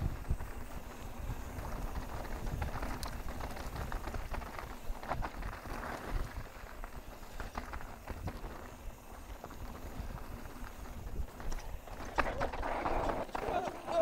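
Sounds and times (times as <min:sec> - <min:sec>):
bike knocking and rattling: 0:00.0 - 0:14.0
bike tyres crunching on rocks: 0:00.0 - 0:14.0.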